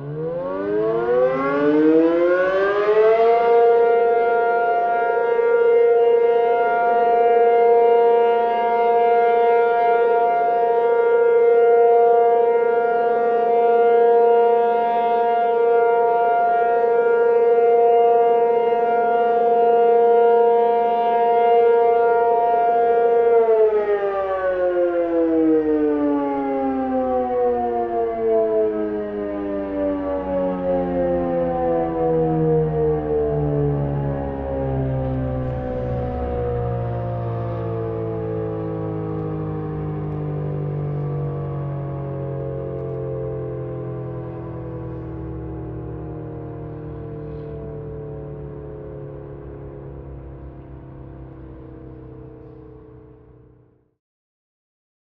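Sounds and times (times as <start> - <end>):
warning siren: 0.0 - 54.0.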